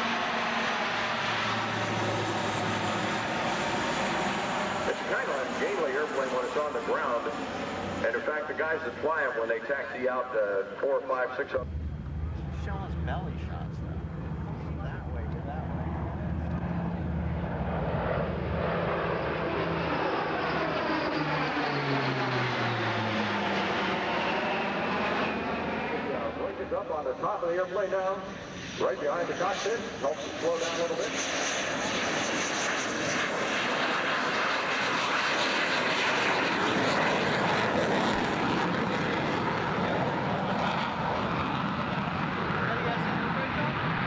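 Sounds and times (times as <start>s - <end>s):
airplane engines: 0.0s - 44.0s
jet aircraft flying past: 0.0s - 44.0s.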